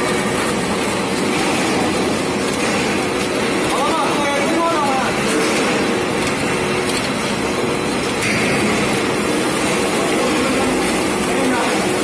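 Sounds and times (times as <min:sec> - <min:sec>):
machine running mechanical din: 0:00.0 - 0:12.0
popcorn rattling onto metal tray: 0:00.6 - 0:12.0.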